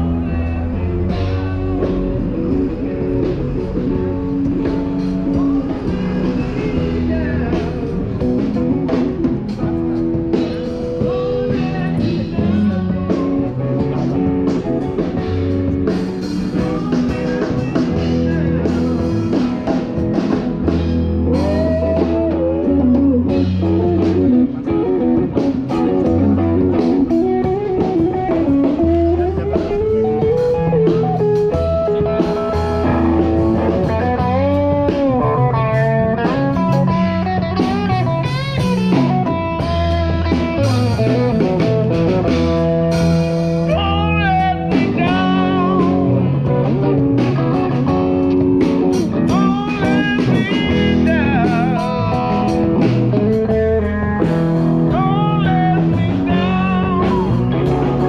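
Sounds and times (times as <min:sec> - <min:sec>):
amplified guitar: 0:00.0 - 0:58.0
bass line: 0:00.0 - 0:58.0
drum kit: 0:00.0 - 0:58.0.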